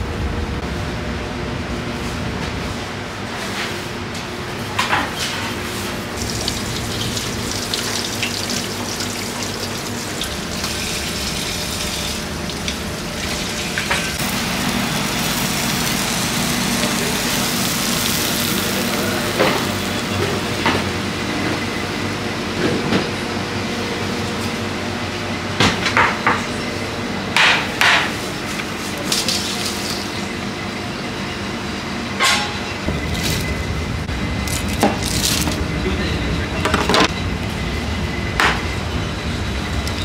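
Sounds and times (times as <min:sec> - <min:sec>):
kitchen noise with low hum: 0:00.6 - 0:40.0.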